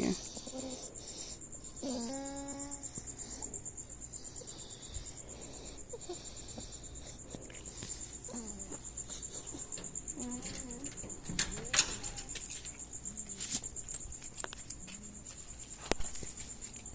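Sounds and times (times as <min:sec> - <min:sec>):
crickets chirping: 0:00.0 - 0:16.9.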